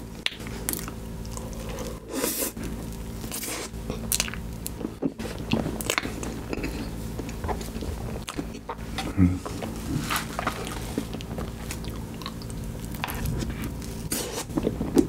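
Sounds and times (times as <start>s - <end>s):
person chewing soft food: 0.0s - 15.0s.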